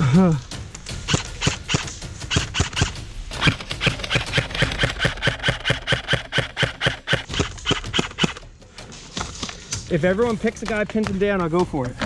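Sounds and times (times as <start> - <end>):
running footsteps: 0.4 - 12.0.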